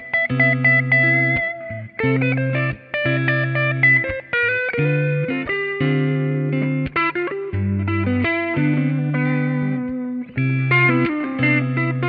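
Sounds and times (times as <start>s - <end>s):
overdriven electric guitar riff: 0.0s - 12.0s.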